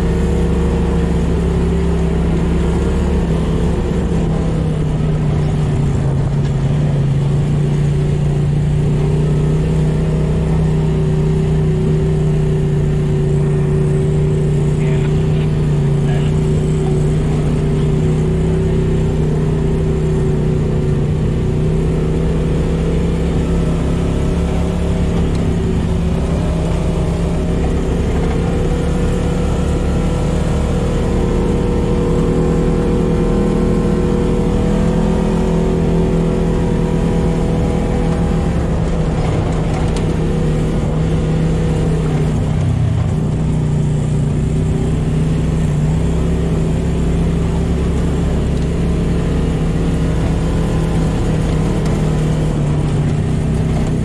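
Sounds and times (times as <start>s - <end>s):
rattle and crunch of dirt track: 0.0s - 54.0s
vehicle engine running: 0.0s - 54.0s.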